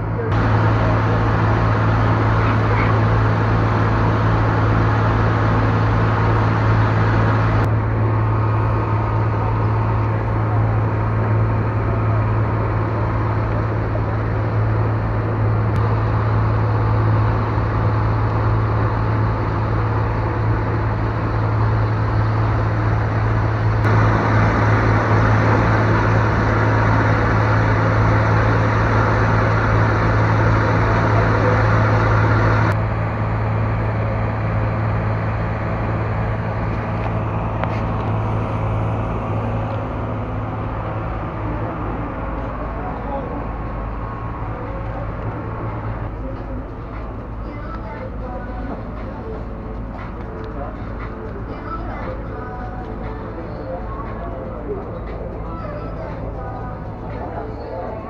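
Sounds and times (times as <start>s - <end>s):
churning wake water: 0.0s - 58.0s
ferry engine droning: 0.0s - 58.0s.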